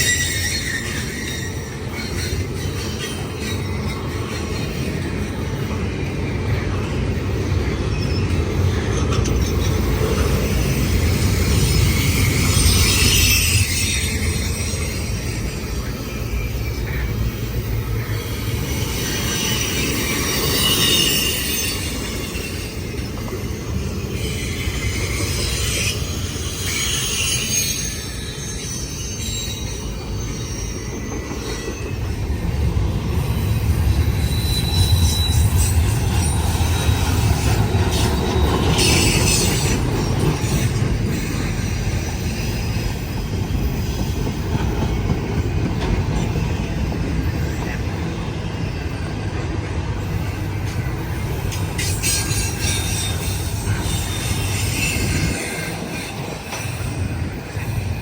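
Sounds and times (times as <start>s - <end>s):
train rumbling on track: 0.0s - 58.0s
train wheels squealing: 0.0s - 58.0s.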